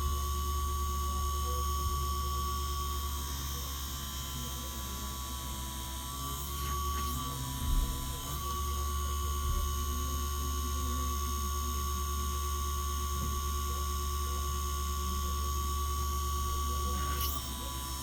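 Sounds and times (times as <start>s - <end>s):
power tool motor whining: 0.0s - 18.0s.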